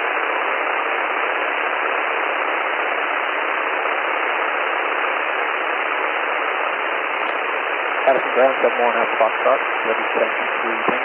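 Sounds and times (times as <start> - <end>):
radio line hiss: 0.0 - 11.0.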